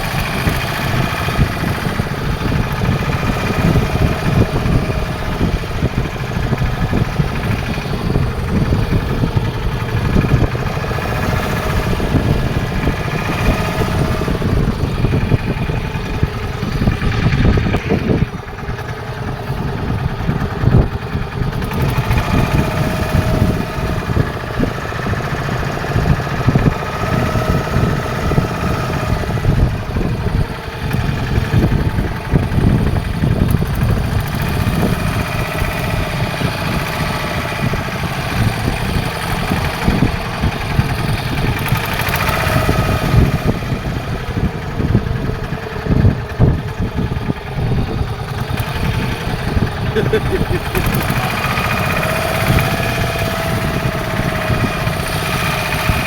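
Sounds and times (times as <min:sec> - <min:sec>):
boat engine throbbing: 0:00.0 - 0:56.0.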